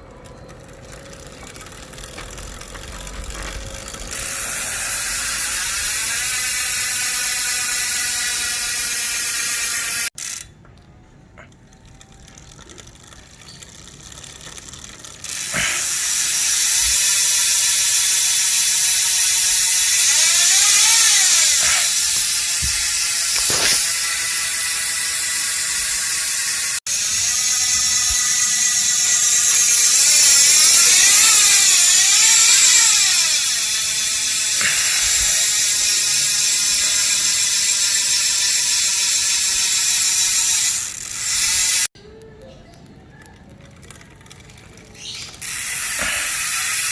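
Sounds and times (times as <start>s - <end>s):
bicycle freehub buzzing: 0.0s - 10.6s, 11.2s - 42.3s, 43.5s - 46.9s.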